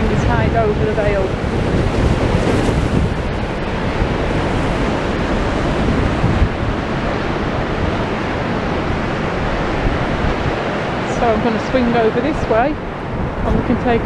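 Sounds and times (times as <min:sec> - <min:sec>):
waves breaking: 0:00.0 - 0:14.0
wind rumbling on microphone: 0:00.0 - 0:14.0.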